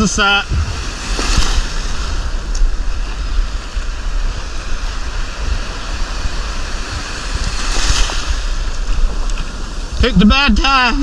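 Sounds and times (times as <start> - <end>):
waves breaking on beach: 0.0 - 11.0
wind rumbling on microphone: 0.0 - 11.0.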